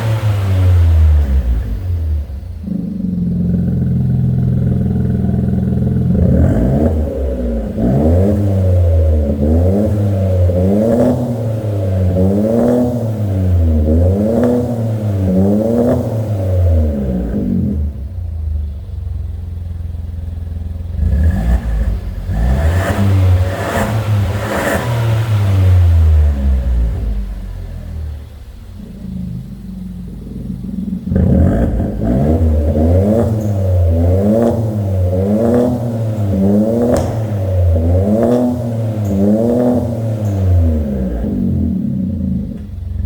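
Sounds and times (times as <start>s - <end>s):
car engine idling: 0.0s - 43.0s
car engine revving: 0.0s - 43.0s.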